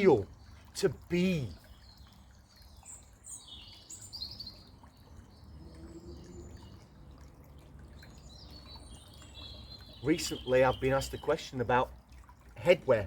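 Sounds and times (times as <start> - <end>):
brook babbling: 0.0 - 13.0
songbirds chirping: 0.0 - 13.0.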